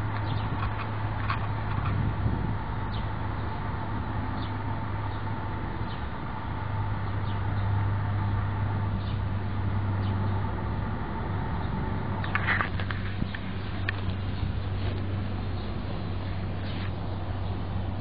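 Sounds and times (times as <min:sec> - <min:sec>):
low outdoor hum: 0:00.0 - 0:18.0.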